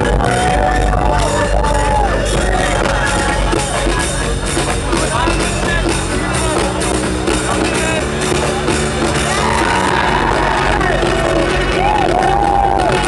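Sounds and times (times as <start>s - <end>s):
electronic dance music: 0.0s - 13.0s.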